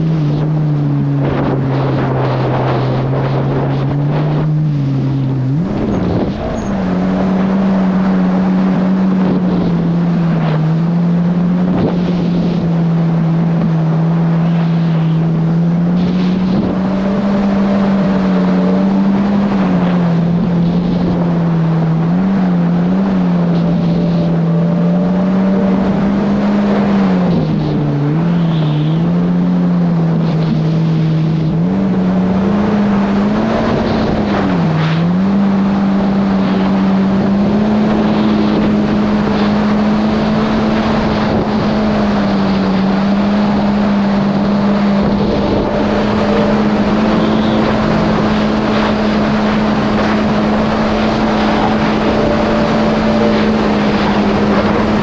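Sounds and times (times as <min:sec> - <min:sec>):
jet ski engine running: 0:00.0 - 0:55.0
water rushing: 0:00.0 - 0:55.0
wind: 0:00.0 - 0:55.0.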